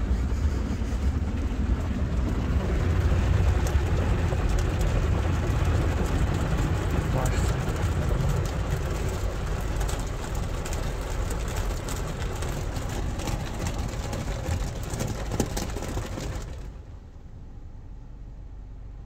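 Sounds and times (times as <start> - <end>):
low steady hum: 0.0 - 19.0
water spraying on car: 1.2 - 16.8.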